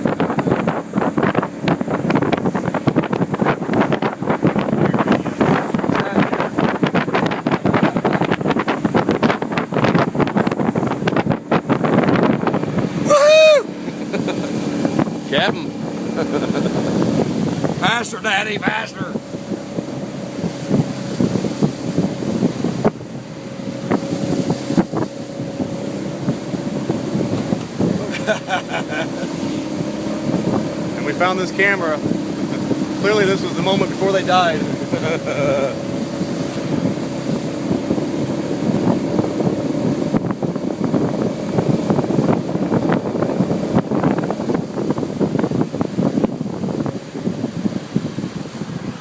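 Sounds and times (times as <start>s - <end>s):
motorboat motor whining: 0.0s - 49.0s
water slapping against hull: 0.0s - 49.0s
wind buffeting microphone: 0.0s - 49.0s.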